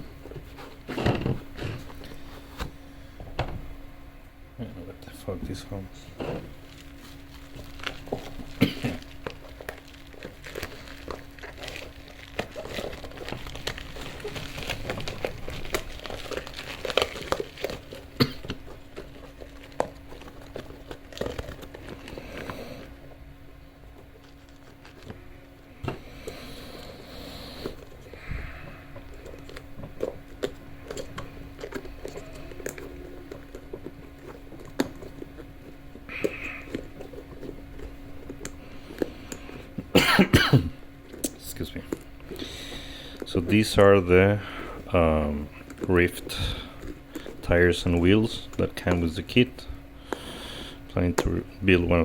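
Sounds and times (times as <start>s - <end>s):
crinkling and rustling: 0.0s - 3.7s, 5.0s - 39.9s, 40.9s - 52.0s
steady low hum: 0.0s - 52.0s.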